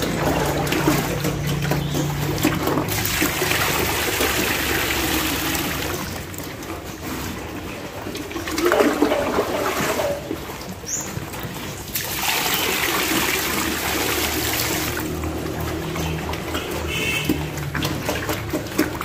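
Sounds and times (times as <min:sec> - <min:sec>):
piglets slurping and chewing: 0:00.0 - 0:19.0.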